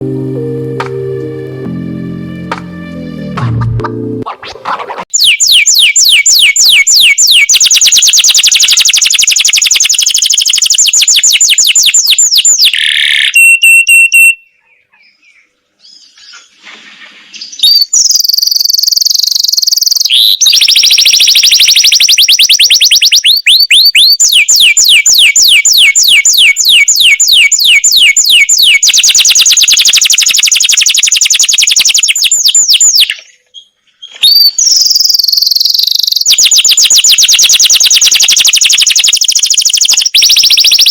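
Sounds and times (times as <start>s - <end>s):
canary singing trills: 5.1s - 16.6s, 17.3s - 40.9s.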